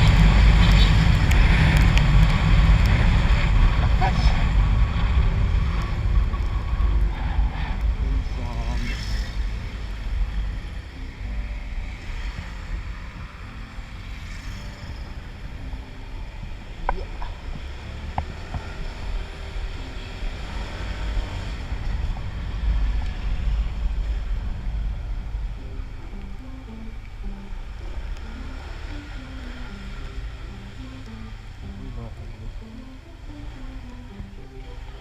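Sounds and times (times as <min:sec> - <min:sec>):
scooter engine running: 0:00.0 - 0:35.0
wind buffeting microphone: 0:00.0 - 0:35.0.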